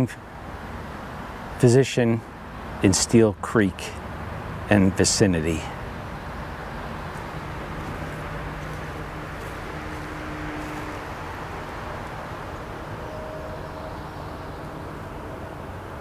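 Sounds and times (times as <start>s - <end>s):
distant engine rumble: 0.0s - 16.0s.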